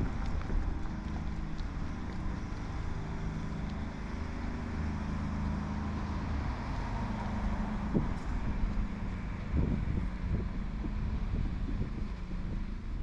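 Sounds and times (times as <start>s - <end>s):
engine running: 0.0s - 13.0s
street noise: 0.0s - 13.0s.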